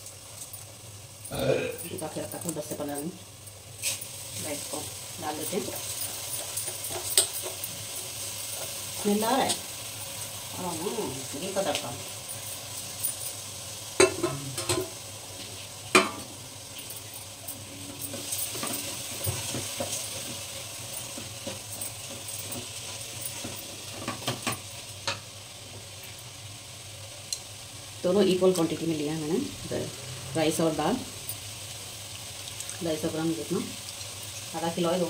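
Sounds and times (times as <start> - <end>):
oil sizzling: 0.0 - 35.0.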